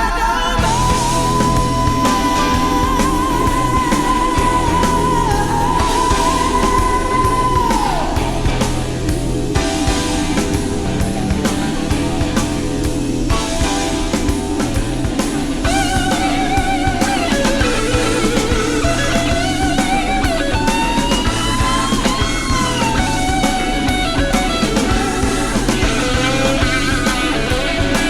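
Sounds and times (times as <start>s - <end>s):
drums: 0.0s - 28.0s
bass guitar: 0.6s - 28.0s
lead guitar bending lines: 0.6s - 28.0s.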